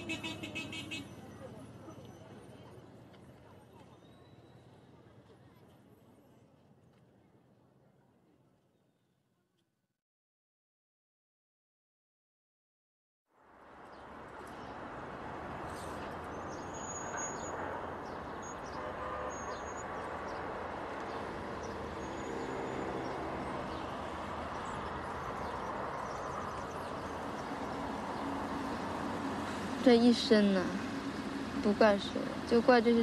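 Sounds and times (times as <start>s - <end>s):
distant traffic hum: 0.0s - 8.7s, 13.4s - 33.0s.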